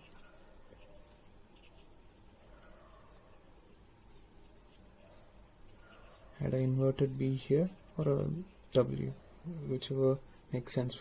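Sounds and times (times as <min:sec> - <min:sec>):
pencil scratching on paper: 0:00.0 - 0:09.4.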